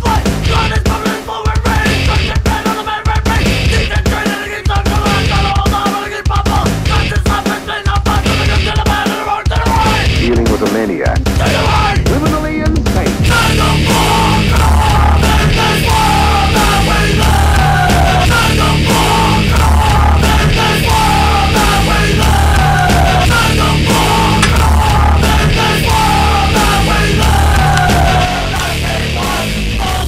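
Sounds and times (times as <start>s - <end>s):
loud heavy rock music: 0.0s - 30.0s.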